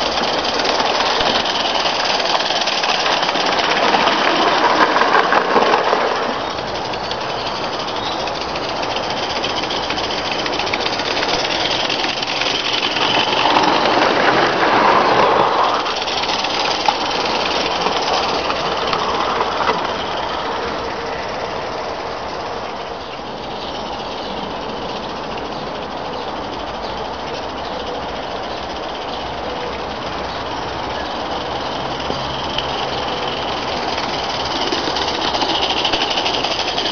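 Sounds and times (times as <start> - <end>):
steam locomotive exhaust beat: 0.0 - 36.9
wagons rattling on track: 0.0 - 36.9.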